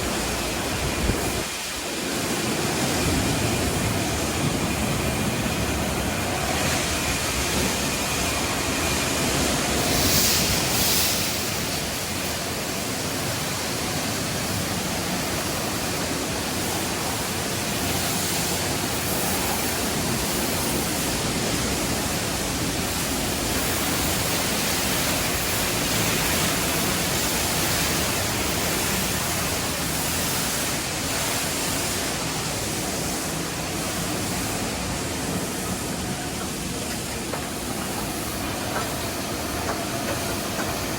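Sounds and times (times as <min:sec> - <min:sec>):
car wash equipment hissing: 0:00.0 - 0:40.9.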